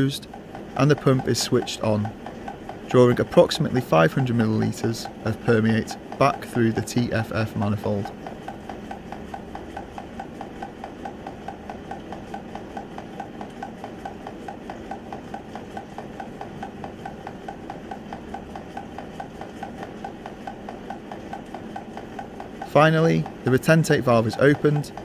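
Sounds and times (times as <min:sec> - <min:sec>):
pump humming with regular ticks: 0:00.0 - 0:25.0.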